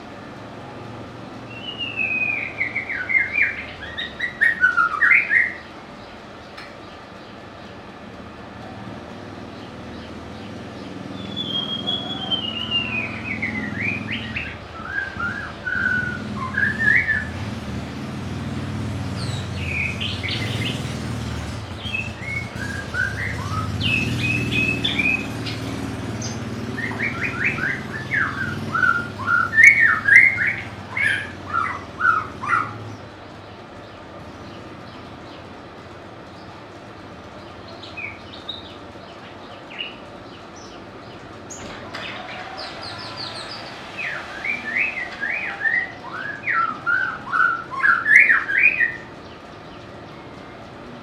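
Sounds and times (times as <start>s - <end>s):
bird whistled song with trills: 1.4s - 7.4s, 9.5s - 35.4s, 37.4s - 50.7s.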